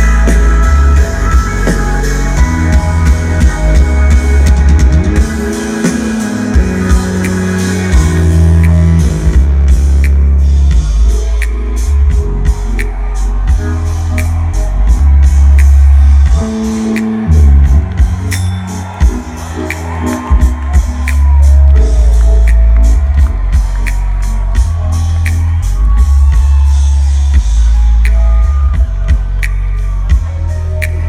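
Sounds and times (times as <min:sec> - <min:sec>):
deep bass notes: 0:00.0 - 0:31.0
drum kit playing: 0:00.0 - 0:31.0
loud electronic music: 0:00.0 - 0:31.0.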